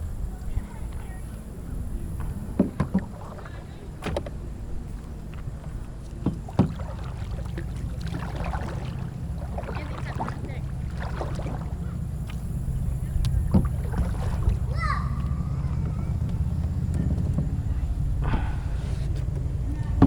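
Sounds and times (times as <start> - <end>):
rumble of wind and water: 0.0 - 20.0.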